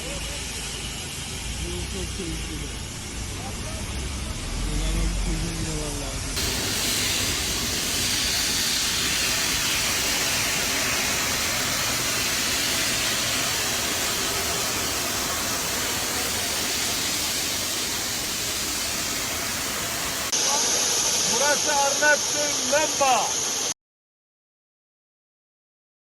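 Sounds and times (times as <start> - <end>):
loud steady hiss: 0.0 - 23.8.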